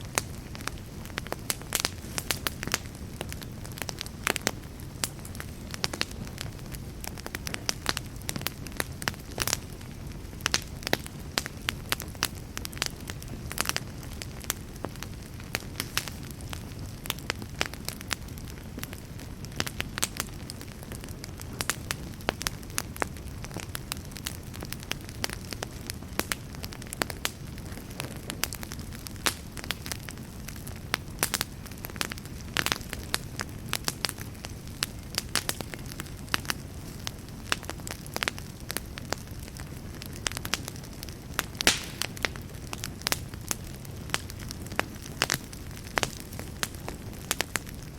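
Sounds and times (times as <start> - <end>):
low rumble of flame: 0.0 - 47.9
wood crackling and popping: 0.0 - 47.9.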